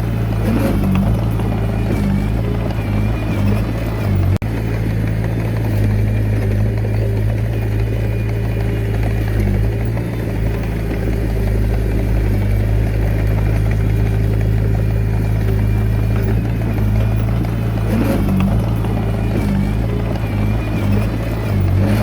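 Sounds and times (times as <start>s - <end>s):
diesel engine running: 0.0s - 22.0s
engine clatter: 0.0s - 22.0s.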